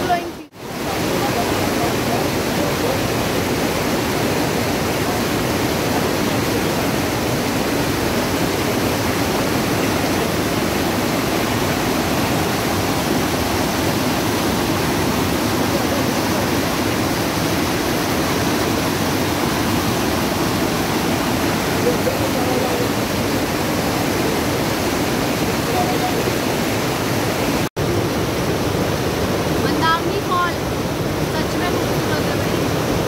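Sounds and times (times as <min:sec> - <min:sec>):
waterfall roaring over boulders: 0:00.0 - 0:33.0.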